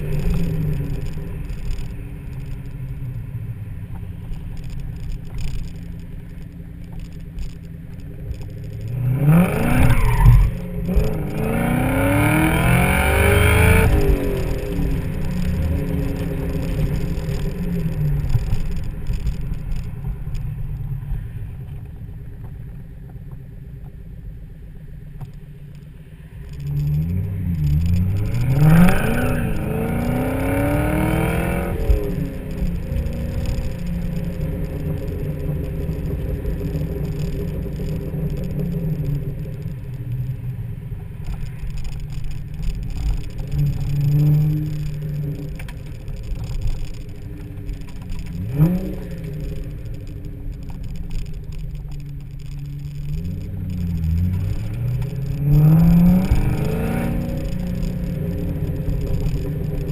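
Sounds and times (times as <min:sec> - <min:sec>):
car engine accelerating: 0:00.0 - 0:22.6, 0:26.1 - 0:59.9
high supercharger whine: 0:00.0 - 0:59.9.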